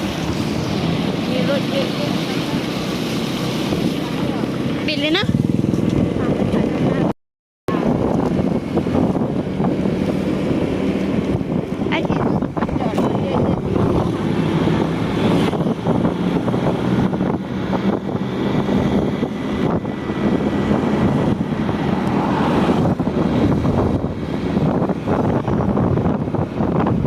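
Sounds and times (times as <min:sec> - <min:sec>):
vehicle engine humming: 0:00.0 - 0:07.1, 0:07.7 - 0:27.0
wind noise on microphone: 0:00.0 - 0:27.0.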